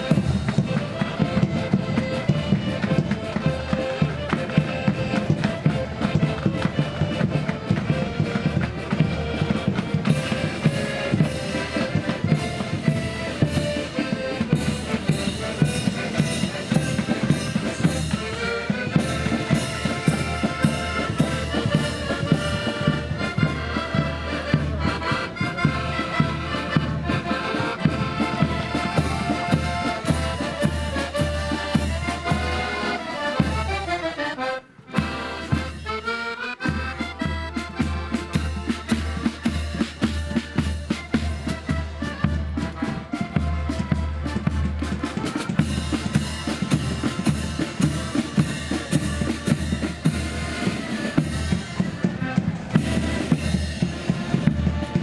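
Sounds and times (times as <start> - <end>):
side drum beat: 0.0 - 34.2, 35.0 - 55.0
marching band playing: 0.0 - 55.0.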